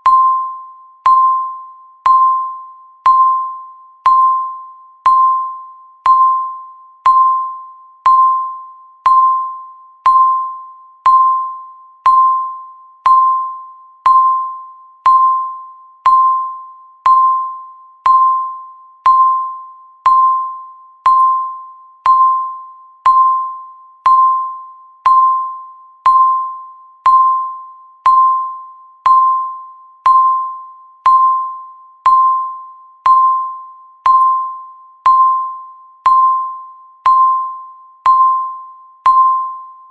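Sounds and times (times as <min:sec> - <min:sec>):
timer beeps: 0:00.0 - 0:39.9.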